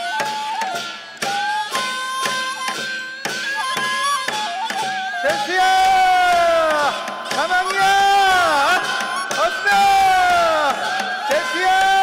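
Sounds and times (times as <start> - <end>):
drum strokes: 0.0 - 12.0
wavering melody instrument: 0.0 - 12.0.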